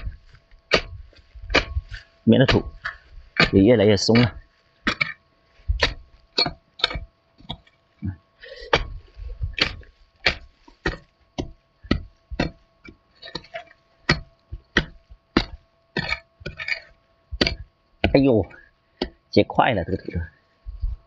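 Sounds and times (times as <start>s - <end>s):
hoe chopping into dry soil: 0.0s - 7.7s, 8.6s - 19.2s.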